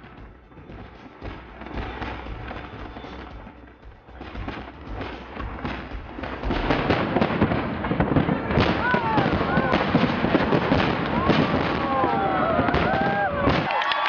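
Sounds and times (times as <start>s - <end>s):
fireworks bangs and crackling: 0.0s - 14.0s.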